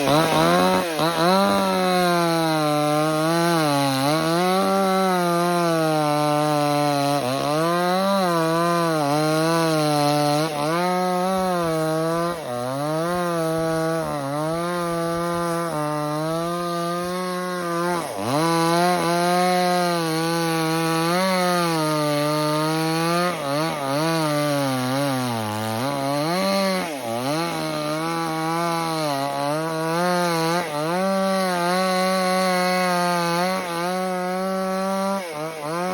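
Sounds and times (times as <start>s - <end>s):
chainsaw cutting into tree: 0.0s - 35.9s.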